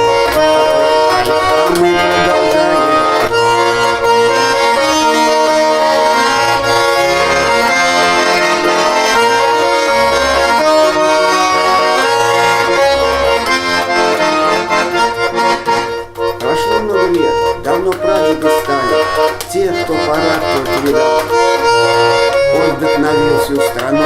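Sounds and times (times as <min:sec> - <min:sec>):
button accordion playing folk tune: 0:00.0 - 0:24.0.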